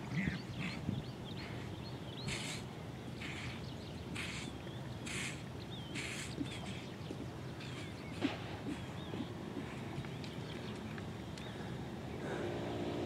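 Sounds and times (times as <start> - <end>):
small birds chirping: 0.0 - 13.0
soft rush of noise: 0.0 - 13.0.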